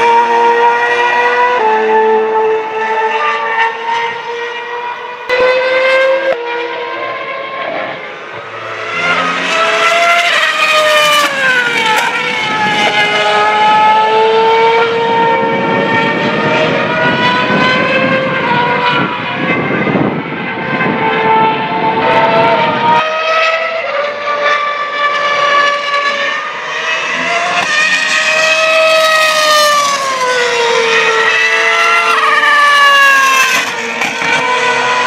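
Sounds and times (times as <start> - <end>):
racing car engines at high revs: 0.0 - 35.0
racing car passing by: 0.0 - 35.0.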